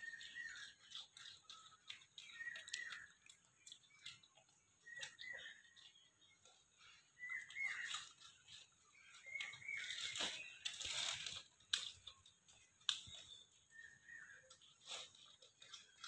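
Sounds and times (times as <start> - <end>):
crunching and rustling: 0.0 - 16.0.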